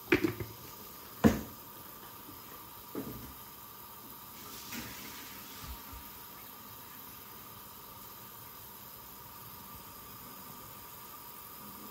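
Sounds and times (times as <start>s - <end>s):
water boiling in a pot: 0.0s - 11.9s.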